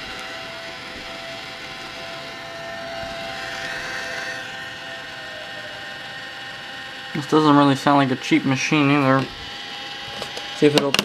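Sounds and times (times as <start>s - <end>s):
camcorder tape mechanism whirring: 0.0s - 11.0s
faint steady tones: 0.0s - 11.0s
high-pitched whine: 0.0s - 11.0s.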